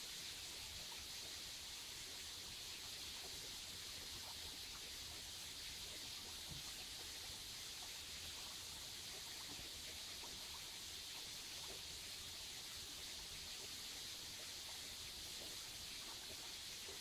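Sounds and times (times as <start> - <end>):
stream water running over stones: 0.0 - 17.0.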